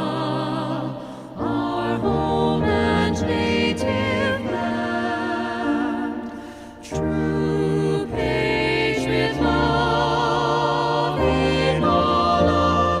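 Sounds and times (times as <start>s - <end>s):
slow choir-like vocal music: 0.0s - 13.0s.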